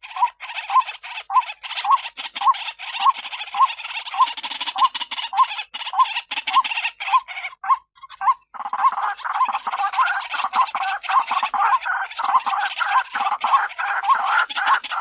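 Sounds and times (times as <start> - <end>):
waterhen rasping call: 0.0 - 15.0.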